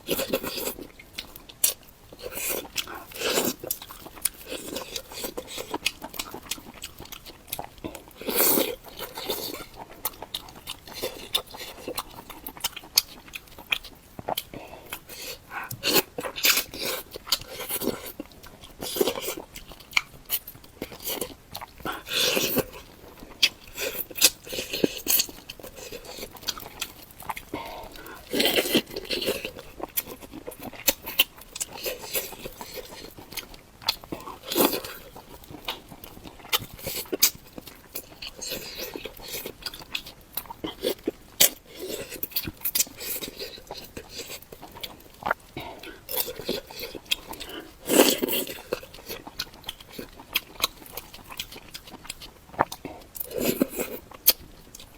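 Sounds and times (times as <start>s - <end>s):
wet chewing and mouth smacking: 0.0s - 54.9s.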